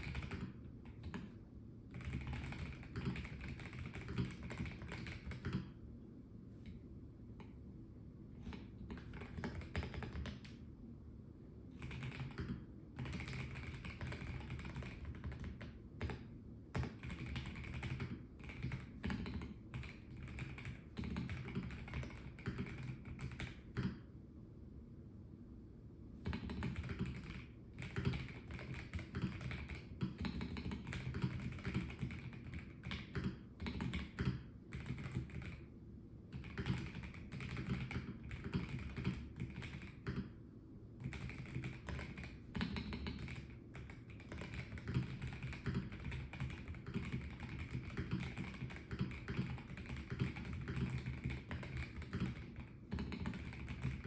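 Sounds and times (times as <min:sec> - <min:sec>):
mechanical keyboard typing: 0:00.0 - 0:05.8, 0:08.4 - 0:10.6, 0:11.7 - 0:24.0, 0:26.2 - 0:35.6, 0:36.3 - 0:40.3, 0:41.0 - 0:54.0.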